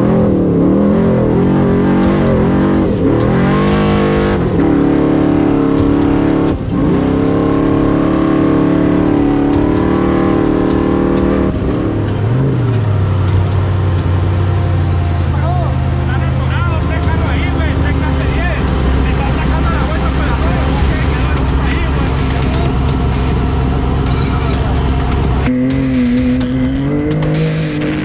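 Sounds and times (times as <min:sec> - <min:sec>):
race vehicle engine revving: 0:00.0 - 0:28.0.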